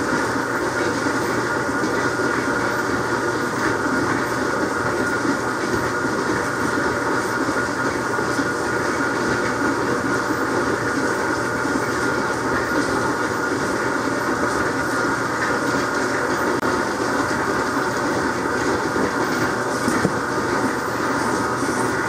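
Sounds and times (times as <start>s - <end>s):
high steady hum: 0.0s - 22.0s.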